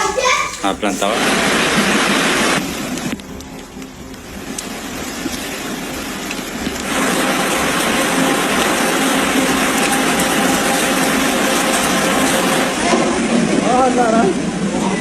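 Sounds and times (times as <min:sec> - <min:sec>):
faint hum: 0:00.0 - 0:15.0
rushing water: 0:00.0 - 0:15.0.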